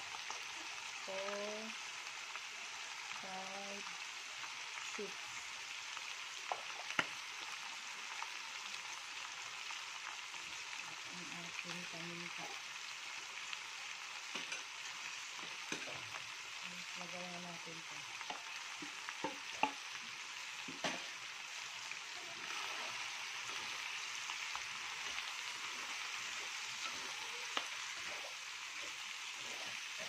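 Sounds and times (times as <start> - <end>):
chicken sizzling in a wok: 0.0 - 30.0.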